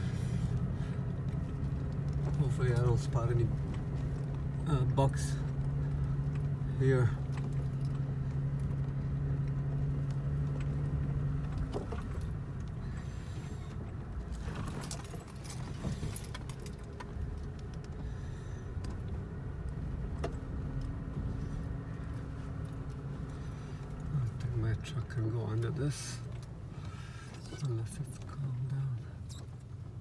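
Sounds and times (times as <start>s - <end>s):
rattles and clicks: 0.0s - 28.6s
continuous rumble: 0.0s - 30.0s
truck engine hum: 0.0s - 30.0s.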